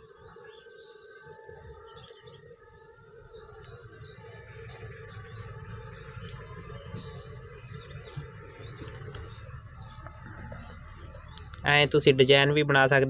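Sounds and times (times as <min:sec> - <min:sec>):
faint low hum: 0:00.0 - 0:13.0
small birds chirping: 0:00.0 - 0:13.0.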